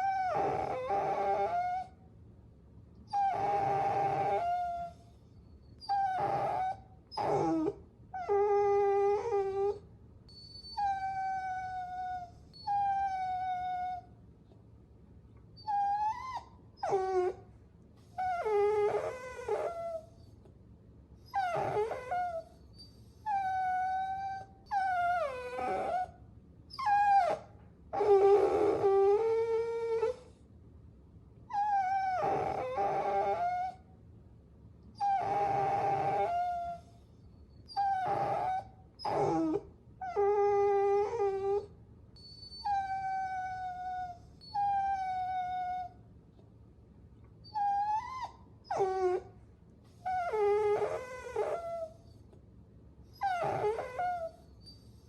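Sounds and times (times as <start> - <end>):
puppies whining: 0.0 - 1.9, 3.1 - 14.1, 15.6 - 17.4, 18.0 - 20.4, 21.2 - 30.4, 31.5 - 33.8, 35.0 - 46.0, 47.4 - 52.4, 53.1 - 55.0.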